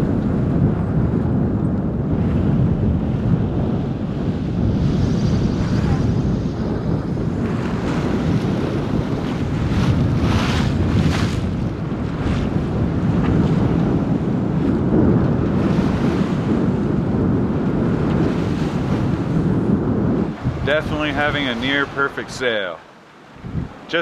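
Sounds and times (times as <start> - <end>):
water rushing along a hull: 0.0 - 24.0
wind buffeting the microphone: 0.0 - 24.0.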